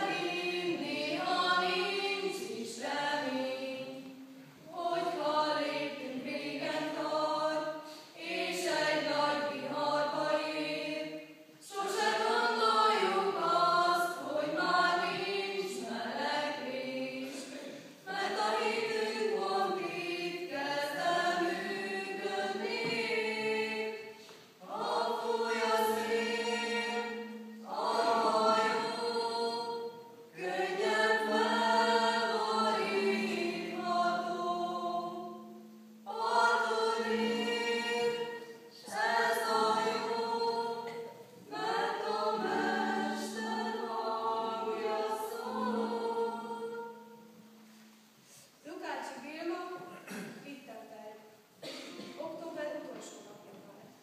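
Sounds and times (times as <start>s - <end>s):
mixed choir singing: 0.0s - 47.9s, 51.6s - 52.0s.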